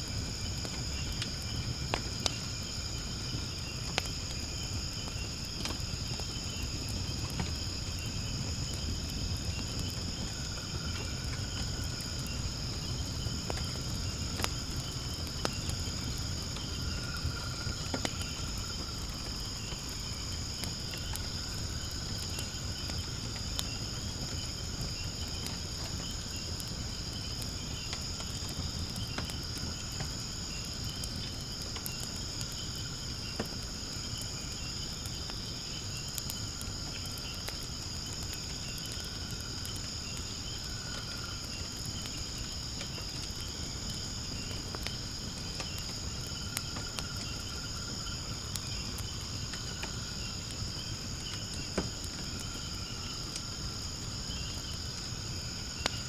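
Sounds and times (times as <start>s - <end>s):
low rumble of flames: 0.0s - 56.0s
night insects trilling: 0.0s - 56.0s
wood fire crackling and popping: 0.0s - 56.0s.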